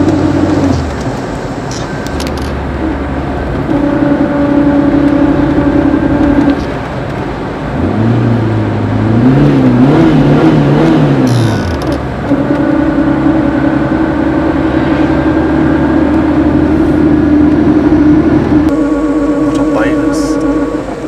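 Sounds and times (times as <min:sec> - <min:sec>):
car whine: 0:00.0 - 0:21.0
wavering low hum: 0:00.0 - 0:21.0.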